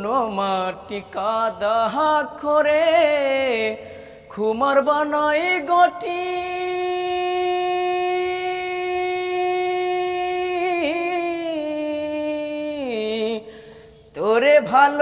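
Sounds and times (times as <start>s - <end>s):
man singing unaccompanied: 0.0s - 13.5s, 14.1s - 15.0s.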